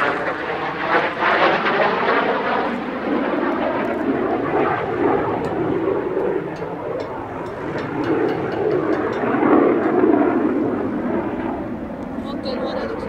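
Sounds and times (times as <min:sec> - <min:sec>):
jet flying by: 0:00.0 - 0:13.0.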